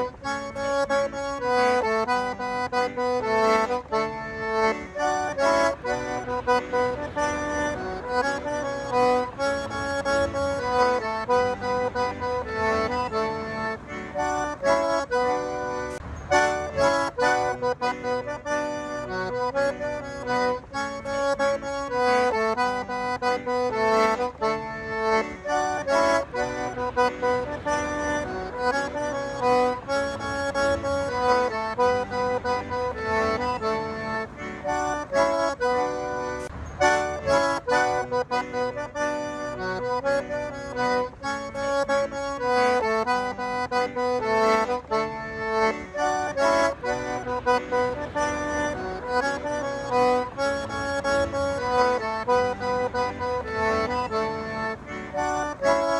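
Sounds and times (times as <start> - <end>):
accordion playing a melody: 0.0 - 55.9.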